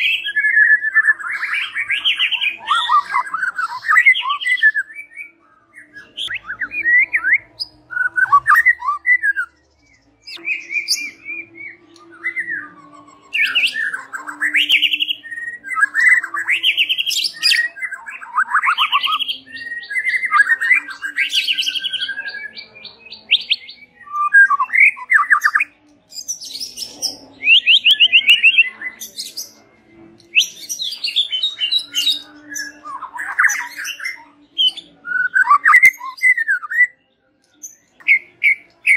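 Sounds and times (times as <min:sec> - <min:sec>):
bird whistling and trilling: 0:00.0 - 0:29.6, 0:30.3 - 0:37.0.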